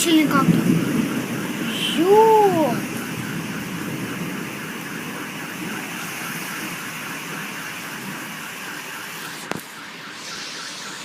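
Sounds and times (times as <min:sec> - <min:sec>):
car alarm warbling: 0:00.0 - 0:11.0
rain hissing: 0:00.0 - 0:11.0.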